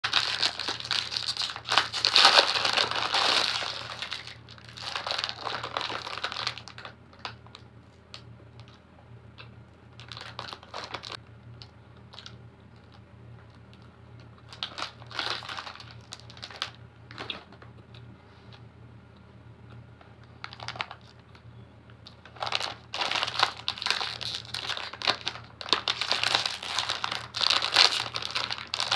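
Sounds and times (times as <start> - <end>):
plastic wrapper crinkling: 0.0 - 8.8, 9.9 - 11.2, 12.1 - 17.8, 20.2 - 28.9.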